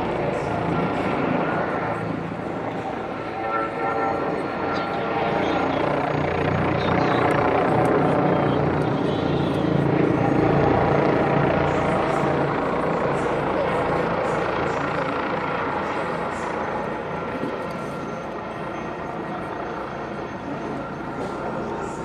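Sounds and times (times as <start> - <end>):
helicopter flying overhead: 0.0 - 22.0.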